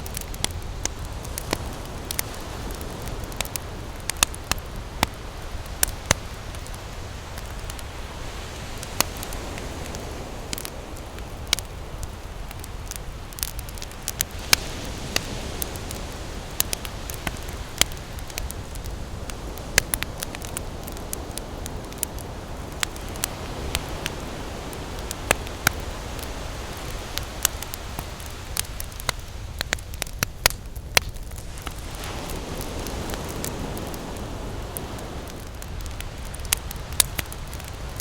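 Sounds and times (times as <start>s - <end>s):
campfire crackling: 0.0s - 38.0s
ocean waves: 0.0s - 38.0s.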